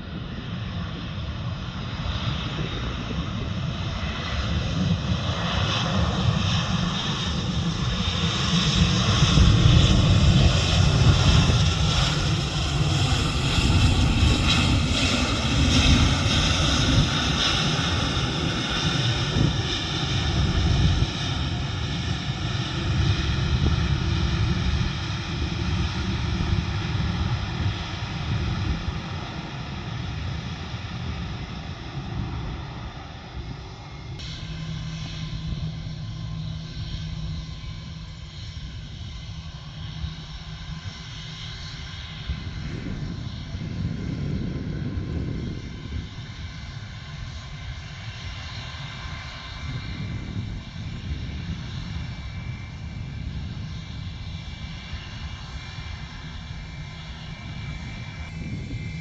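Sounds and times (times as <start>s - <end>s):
jet airliner engines: 0.0s - 59.0s.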